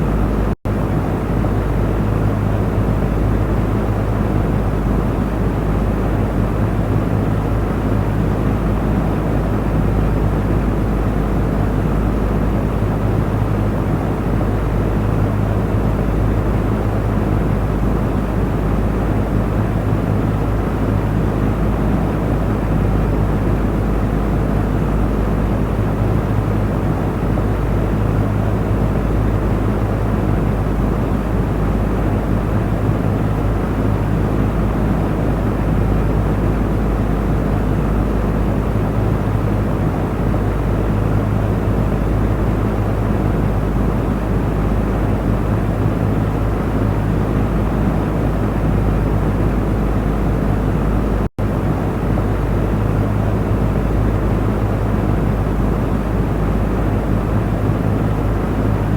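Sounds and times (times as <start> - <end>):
electric fan air rushing: 0.0 - 58.9
low fan motor hum: 0.0 - 58.9.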